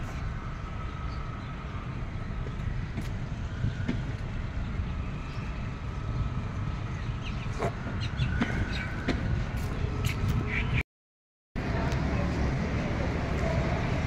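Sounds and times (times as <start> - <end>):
distant road traffic rumble: 0.0 - 10.8, 11.6 - 14.0.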